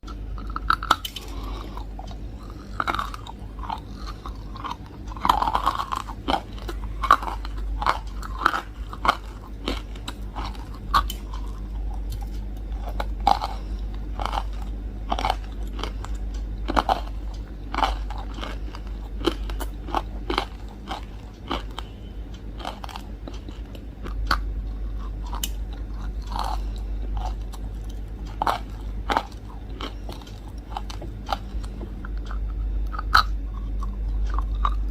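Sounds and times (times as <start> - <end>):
chewing crunchy food: 0.0 - 34.9.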